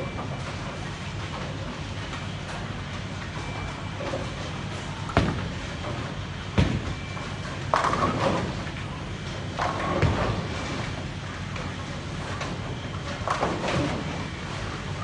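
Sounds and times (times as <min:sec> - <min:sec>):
low rumble of bowling balls rolling: 0:00.0 - 0:15.0.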